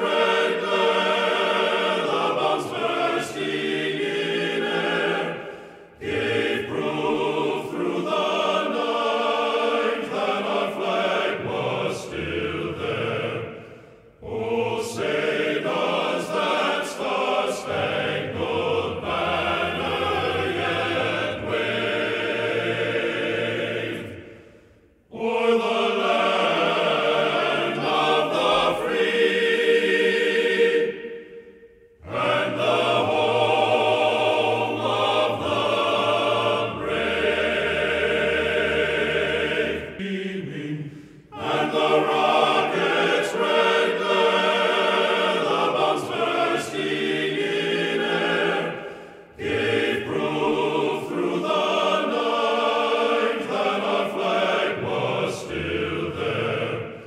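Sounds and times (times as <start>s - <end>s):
choir singing held chords: 0.0s - 57.0s.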